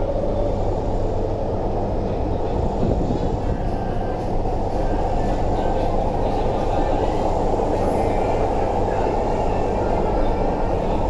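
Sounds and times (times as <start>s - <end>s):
train wheels running on rail: 0.0s - 11.0s.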